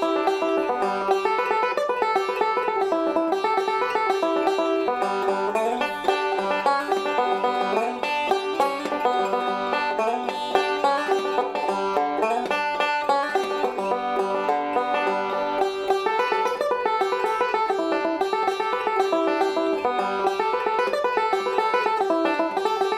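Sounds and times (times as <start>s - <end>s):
banjo picking: 0.0s - 22.9s.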